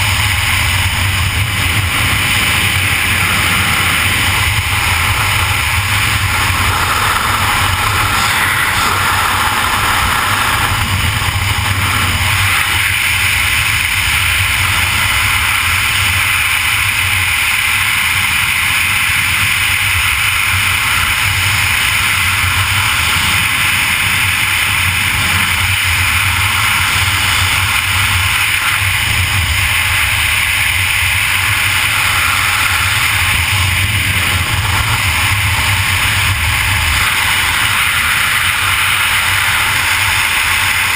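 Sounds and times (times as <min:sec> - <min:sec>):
rushing wind on microphone: 0:00.0 - 0:40.9.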